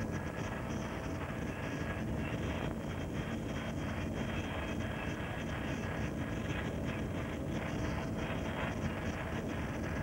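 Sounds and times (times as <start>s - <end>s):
faint high whine: 0.0s - 10.0s
helicopter rotor and engine noise: 0.0s - 10.0s.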